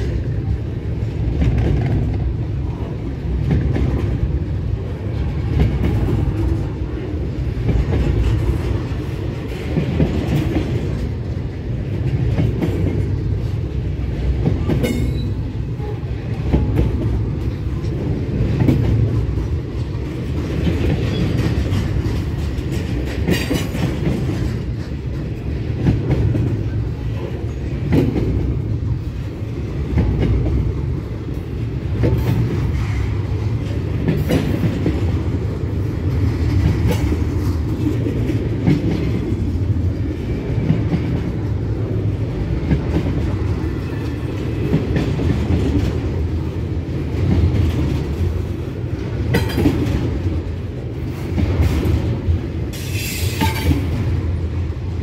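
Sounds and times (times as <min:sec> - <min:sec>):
clickety-clack over rail joints: 0:00.0 - 0:55.0
steel wheels rumbling on rail: 0:00.0 - 0:55.0.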